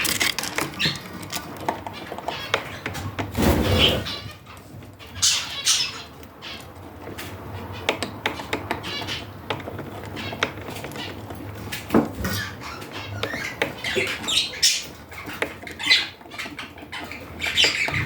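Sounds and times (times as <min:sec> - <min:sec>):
harsh noisy bird calls: 0:00.0 - 0:11.6, 0:12.2 - 0:18.0
budgerigars chattering and chirping: 0:00.7 - 0:18.0.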